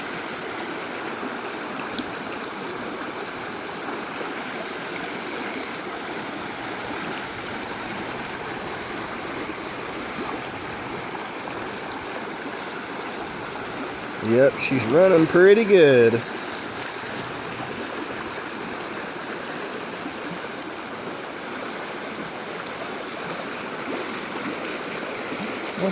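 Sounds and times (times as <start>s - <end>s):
creek water rushing: 0.0s - 25.9s.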